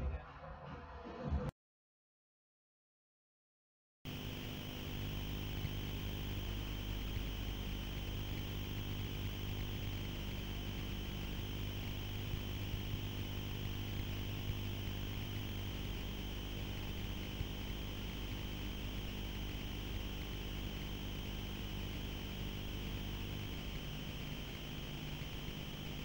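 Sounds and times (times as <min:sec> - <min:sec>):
constant hiss: 0:04.1 - 0:26.0
low hum: 0:04.1 - 0:26.0.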